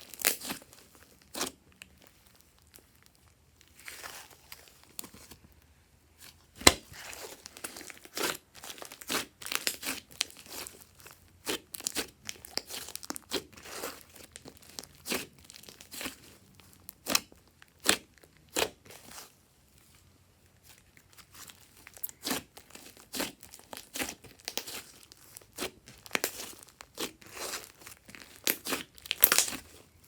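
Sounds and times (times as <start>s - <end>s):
slime crackling and popping: 0.0s - 5.3s, 6.5s - 19.2s, 20.7s - 29.9s.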